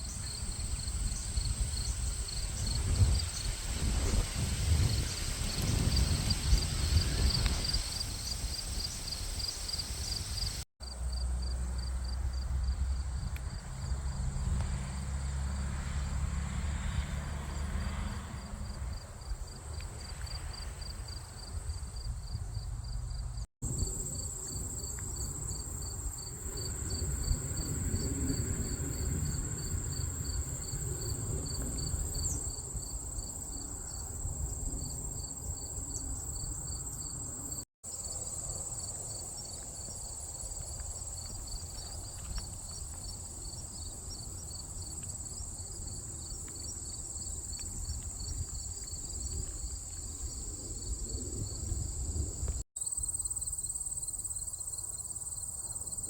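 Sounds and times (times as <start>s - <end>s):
insects chirping: 0.0s - 15.6s, 17.5s - 56.0s
insects buzzing: 0.0s - 56.0s.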